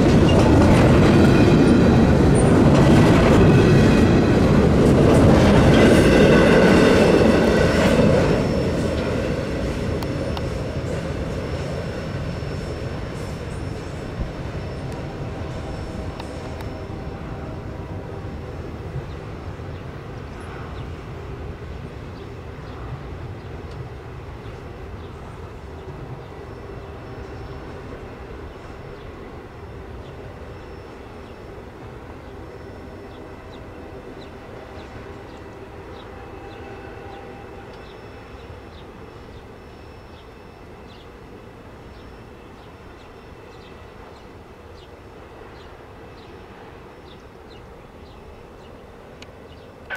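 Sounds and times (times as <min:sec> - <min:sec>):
distant freight train rumble: 0:00.0 - 0:49.9.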